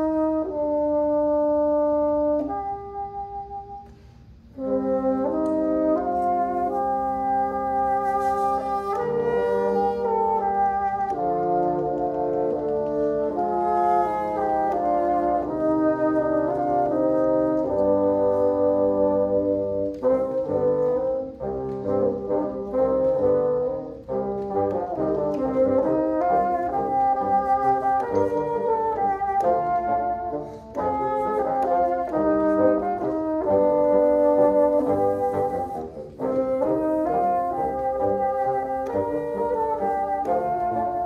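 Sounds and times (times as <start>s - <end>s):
bassoon quartet playing: 0.0s - 41.0s.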